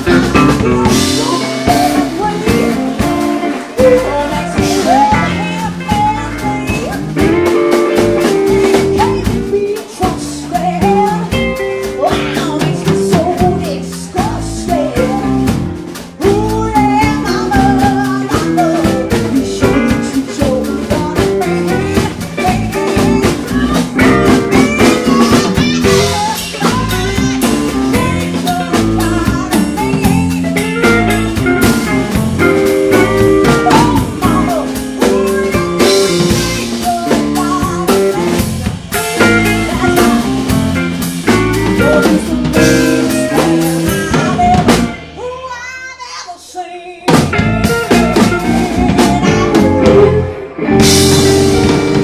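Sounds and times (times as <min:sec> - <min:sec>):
electric guitar: 0:00.0 - 0:45.3, 0:47.1 - 0:52.0
drum kit: 0:00.0 - 0:45.9, 0:47.1 - 0:52.0
blues band playing: 0:00.0 - 0:46.4, 0:47.0 - 0:52.0.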